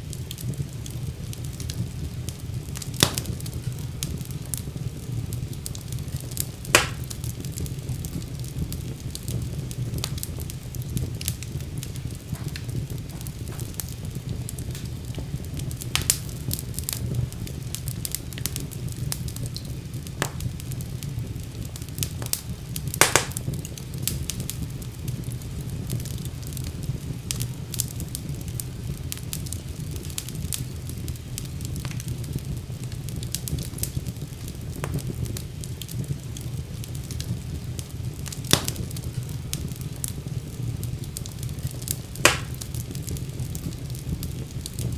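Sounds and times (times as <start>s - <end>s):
fire crackling and popping: 0.0s - 44.9s
fire rumbling in fireplace: 0.0s - 44.9s.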